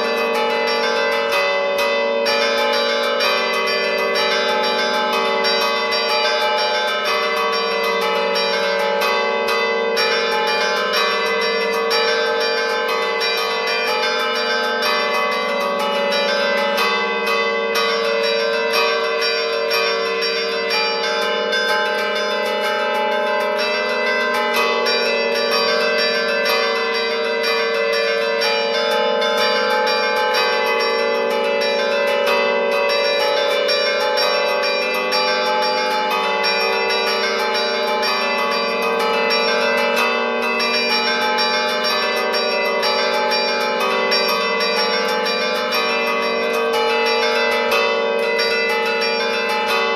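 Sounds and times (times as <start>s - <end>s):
church bells ringing a melody: 0.0s - 49.9s.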